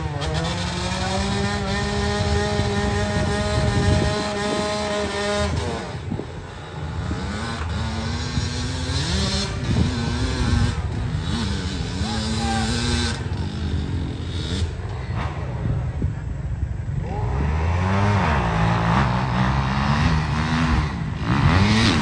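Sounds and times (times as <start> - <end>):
dirt bike engine revving: 0.0 - 16.0, 16.9 - 22.0.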